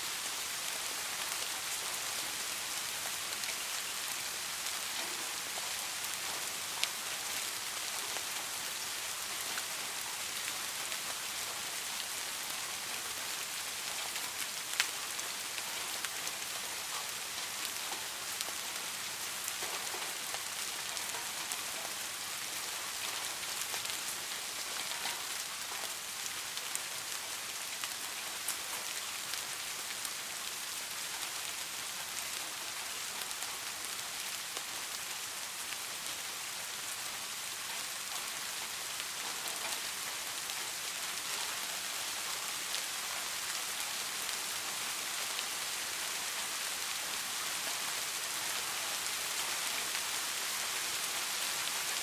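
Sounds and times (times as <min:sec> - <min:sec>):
rain pattering on surface: 0:00.0 - 0:52.0.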